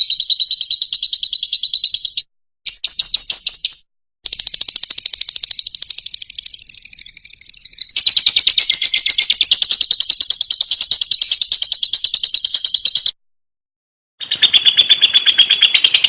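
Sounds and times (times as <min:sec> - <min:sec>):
lovebird high-pitched trill: 0:00.0 - 0:13.2, 0:14.2 - 0:16.0.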